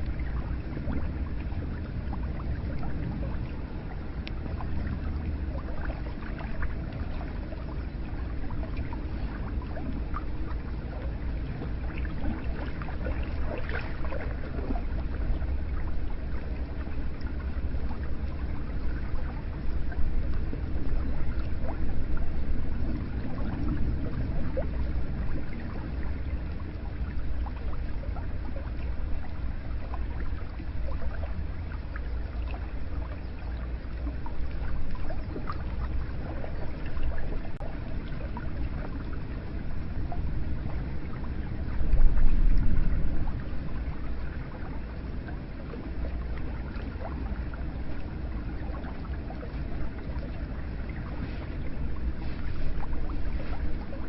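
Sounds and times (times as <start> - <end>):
deep low rumble: 0.0 - 54.0
small water drips: 0.0 - 54.0.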